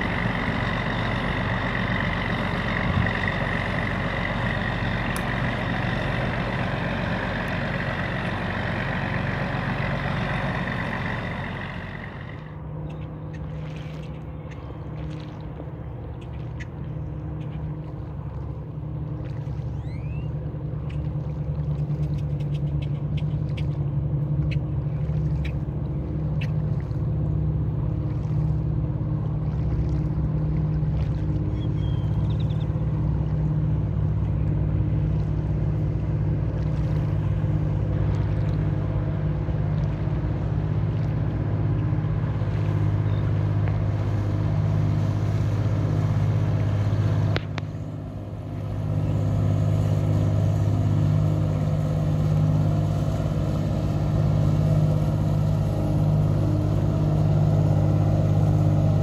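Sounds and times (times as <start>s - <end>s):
boat diesel engine drone: 0.0s - 59.0s.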